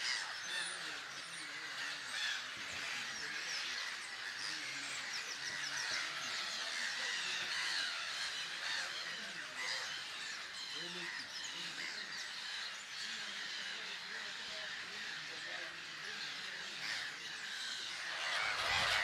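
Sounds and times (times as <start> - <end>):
gulls calling in chorus: 0.0 - 19.0.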